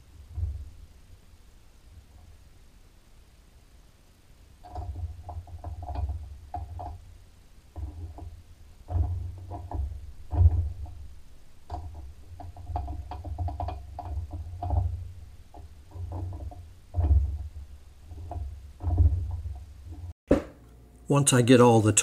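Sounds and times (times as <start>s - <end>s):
dull low bumps: 0.0s - 2.7s, 4.6s - 20.6s.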